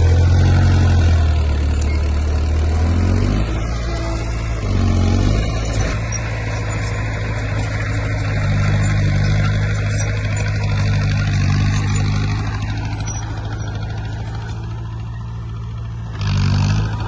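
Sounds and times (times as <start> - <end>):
heavy machine diesel engine running: 0.0 - 17.0.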